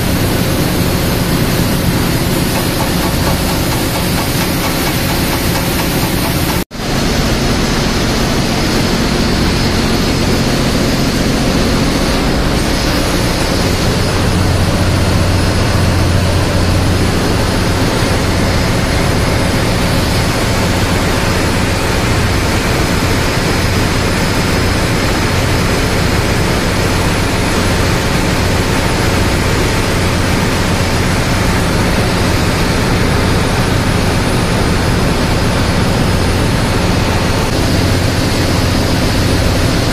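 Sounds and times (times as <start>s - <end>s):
engine room machinery noise: 0.0s - 39.9s.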